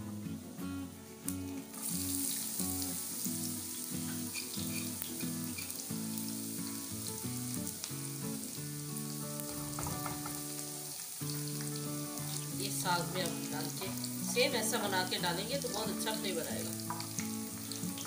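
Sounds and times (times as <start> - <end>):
background music of held notes: 0.0 - 18.0
spices sizzling in hot oil: 0.2 - 18.0.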